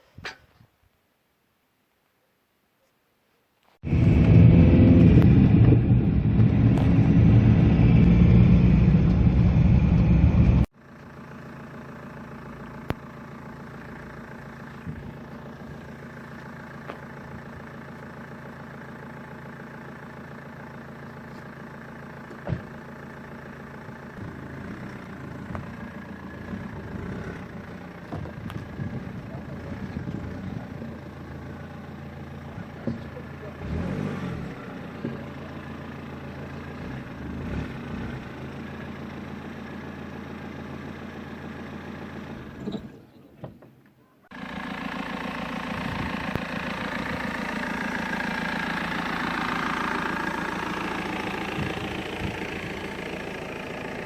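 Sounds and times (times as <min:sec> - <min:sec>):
car engine running: 0:03.8 - 0:43.1, 0:44.3 - 0:54.0.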